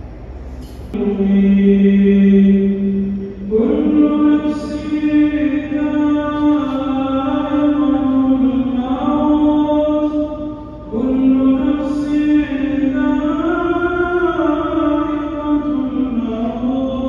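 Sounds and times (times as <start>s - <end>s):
man chanting prayer: 1.0s - 17.0s
melodic recitation: 1.0s - 17.0s.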